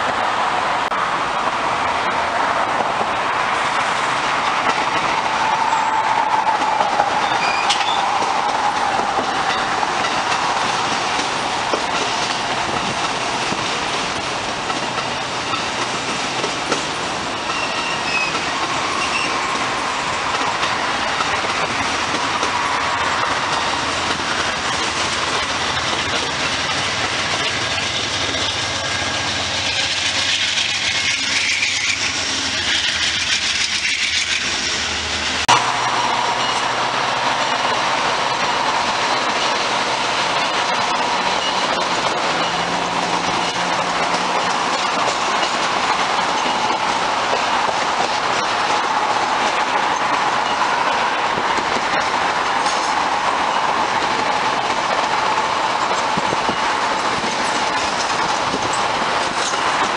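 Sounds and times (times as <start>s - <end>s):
train noise hiss with high whine: 0.0s - 59.9s
train wheels rumbling on rail: 0.0s - 59.9s.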